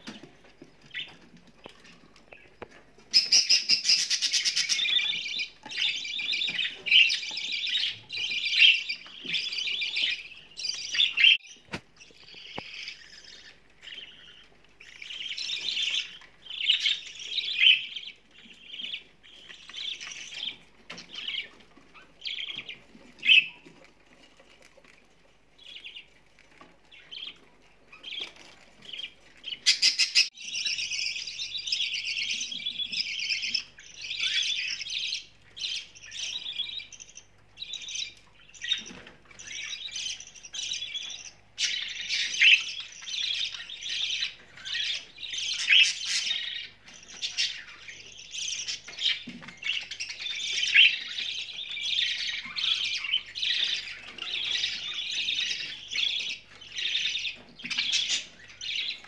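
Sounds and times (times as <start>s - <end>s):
budgerigars chirping: 0.0s - 25.0s, 25.6s - 59.0s.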